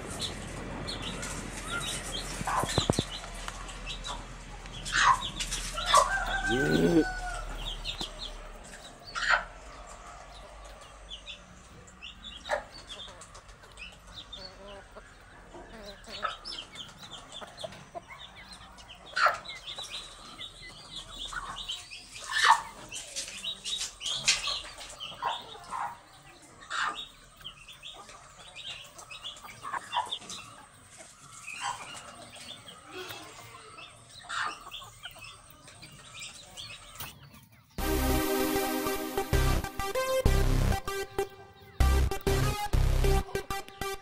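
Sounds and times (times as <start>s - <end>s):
chicken calls: 0.0s - 44.0s
chickens clucking: 0.0s - 44.0s
chicks chirping: 0.0s - 44.0s.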